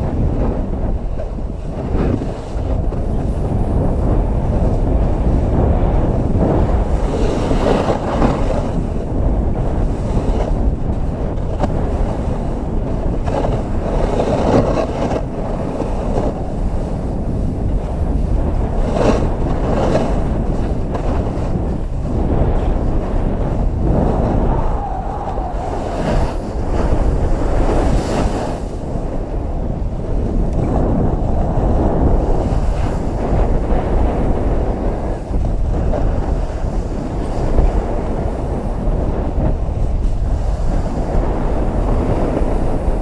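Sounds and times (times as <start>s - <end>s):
wind rushing over microphone: 0.0s - 43.0s
skis scraping on snow: 0.1s - 39.5s.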